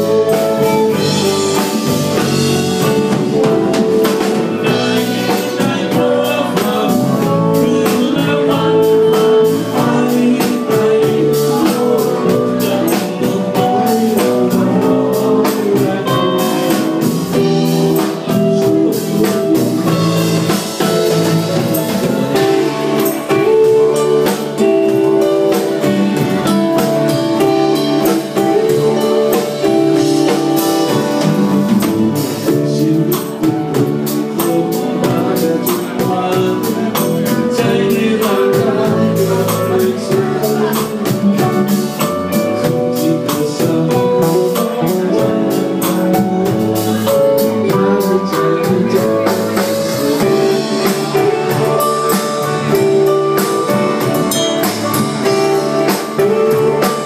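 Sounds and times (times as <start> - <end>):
drum kit beat: 0.0 - 57.0
guitar lines: 0.0 - 57.0.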